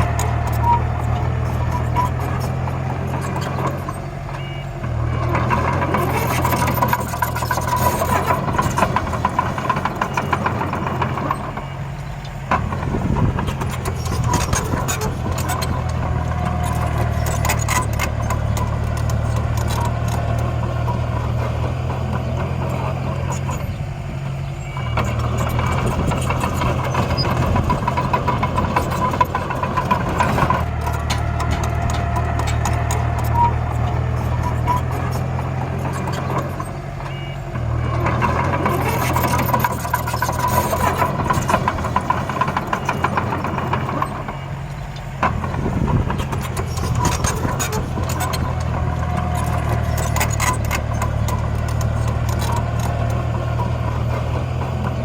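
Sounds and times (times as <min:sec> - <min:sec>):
soil and stones scraping: 0:00.0 - 0:04.1, 0:04.9 - 0:23.8, 0:24.4 - 0:55.0
diesel engine running: 0:00.0 - 0:55.0
rattling and clattering: 0:04.9 - 0:55.0.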